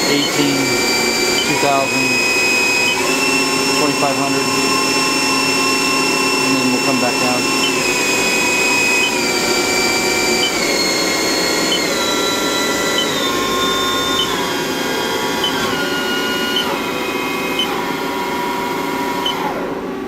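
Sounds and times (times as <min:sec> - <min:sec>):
lathe spindle electric whine: 0:00.0 - 0:20.0.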